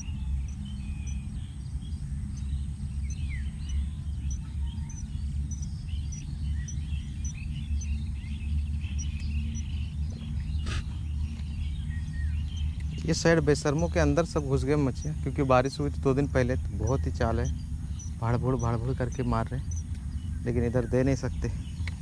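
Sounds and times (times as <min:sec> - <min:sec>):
birds chirping and calling: 0:00.0 - 0:22.0
wind rumbling on microphone: 0:00.0 - 0:22.0.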